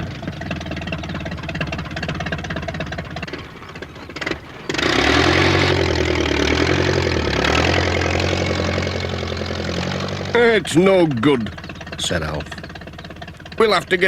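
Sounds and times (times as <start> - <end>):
tractor engine revving hard: 0.0 - 14.0.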